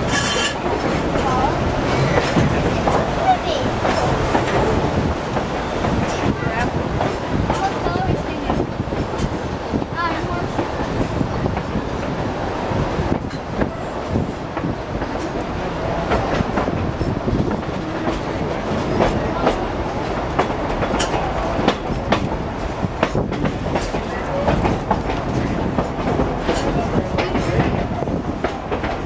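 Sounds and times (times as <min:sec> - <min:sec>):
rail joint clicks and knocks: 0:00.0 - 0:29.0
train wheels rumbling on rail: 0:00.0 - 0:29.0.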